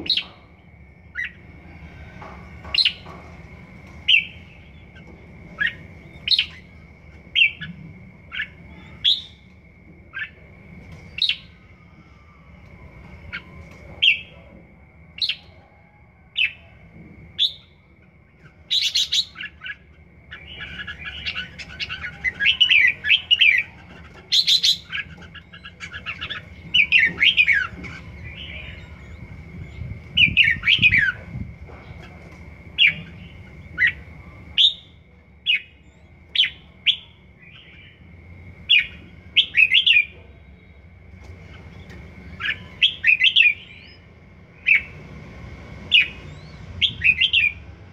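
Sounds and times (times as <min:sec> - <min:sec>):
bird chirping and warbling: 0:00.0 - 0:15.7, 0:17.3 - 0:47.9.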